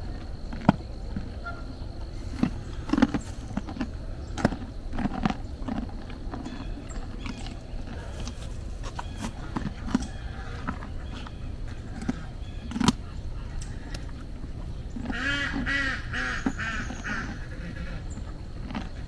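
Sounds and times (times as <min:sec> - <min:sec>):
sharp clicks and crunches: 0:00.0 - 0:01.4, 0:02.2 - 0:17.4, 0:18.1 - 0:19.0.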